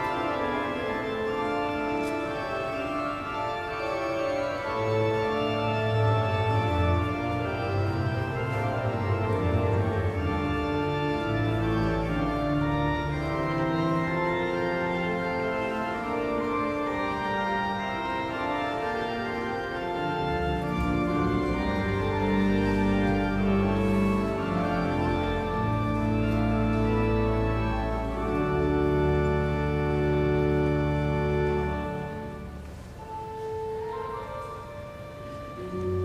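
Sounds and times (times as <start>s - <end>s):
organ playing slow chords: 0.0s - 36.0s.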